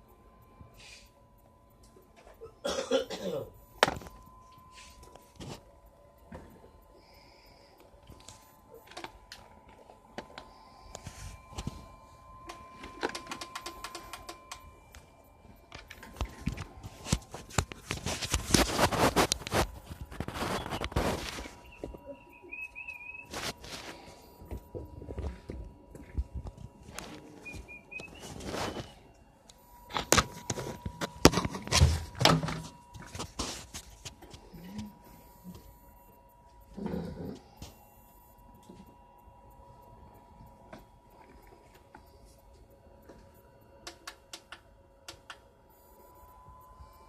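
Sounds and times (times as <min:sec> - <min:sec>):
faint steady high tone: 0:00.0 - 0:47.0.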